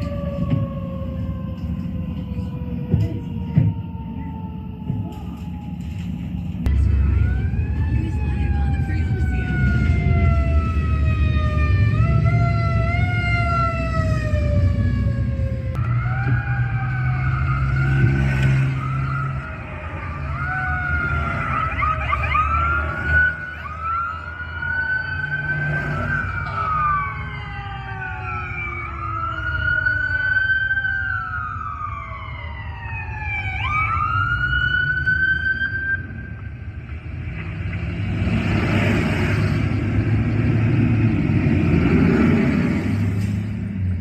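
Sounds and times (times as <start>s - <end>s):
fire truck sirens wailing: 0.0s - 44.0s
truck engine rumble: 0.0s - 44.0s.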